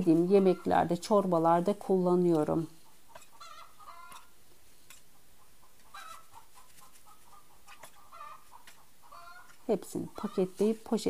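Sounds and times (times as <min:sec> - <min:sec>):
hens clucking: 0:00.0 - 0:04.4, 0:05.0 - 0:11.0.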